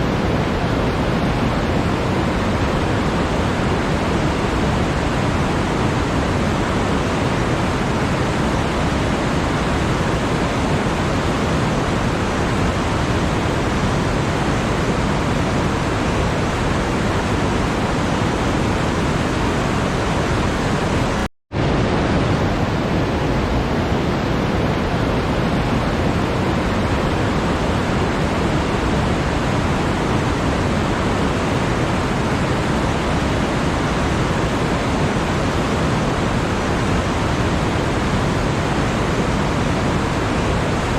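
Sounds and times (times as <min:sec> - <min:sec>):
steady rushing noise: 0:00.0 - 0:40.9.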